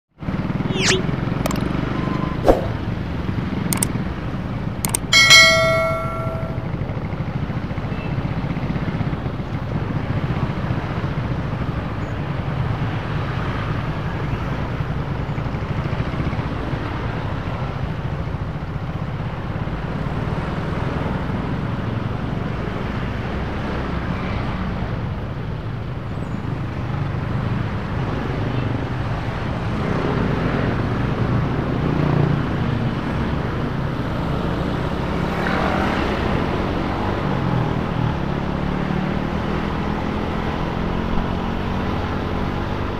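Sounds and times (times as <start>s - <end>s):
traffic engines and road noise: 0.2s - 42.9s.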